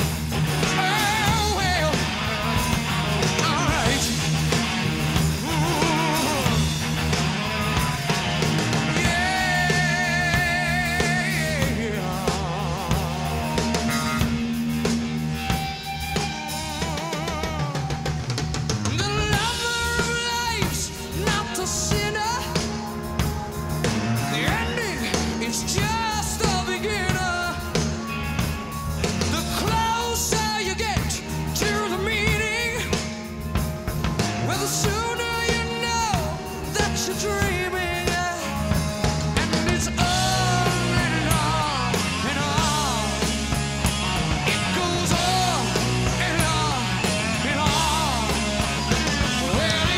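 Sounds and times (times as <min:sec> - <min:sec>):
rock music with singer: 0:00.0 - 0:49.9.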